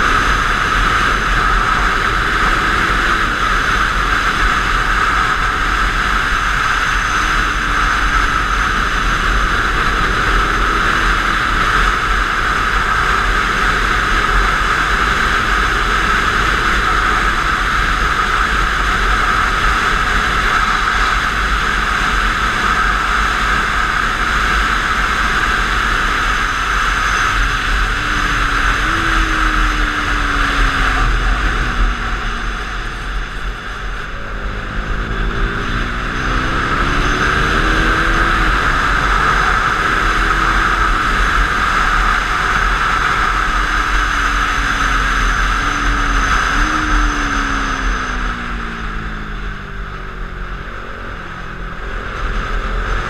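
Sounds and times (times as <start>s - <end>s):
motorcycle engine: 0.0s - 53.0s
wind rushing over camera: 0.0s - 53.0s.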